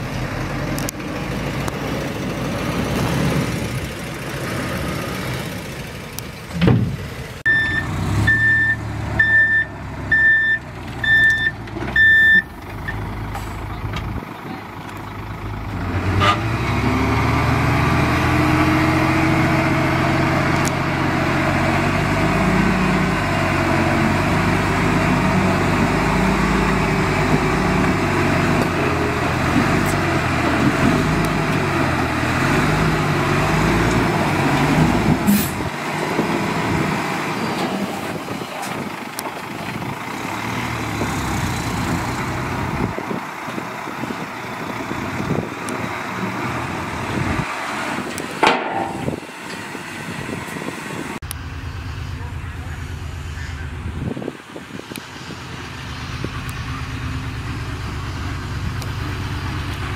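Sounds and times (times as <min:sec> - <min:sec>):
heavy diesel engine revving: 0:00.0 - 0:59.9.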